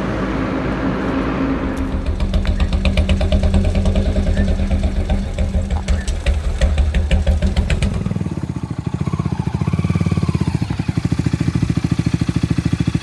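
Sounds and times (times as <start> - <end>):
motorcycle engine pulsing exhaust: 0.0 - 13.0.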